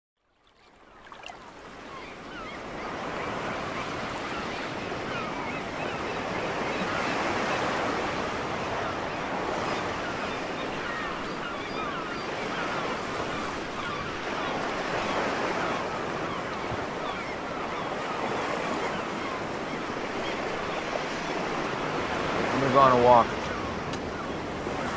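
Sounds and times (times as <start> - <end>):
ocean waves washing onto beach: 1.1 - 24.9.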